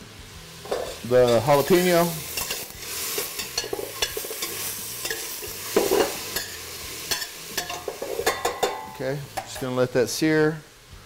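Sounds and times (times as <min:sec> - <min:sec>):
chilies sizzling in a pan: 0:00.0 - 0:11.0.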